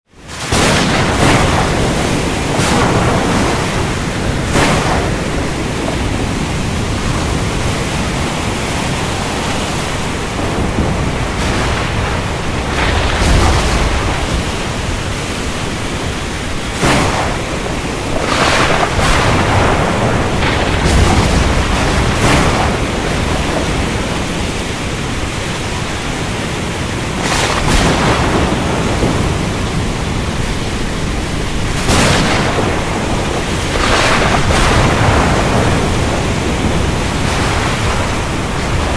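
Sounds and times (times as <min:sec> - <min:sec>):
loud rain: 0:00.0 - 0:38.9
wind: 0:00.0 - 0:38.9
deep thunder rumble: 0:00.3 - 0:38.9
thunder cracks: 0:00.3 - 0:38.9.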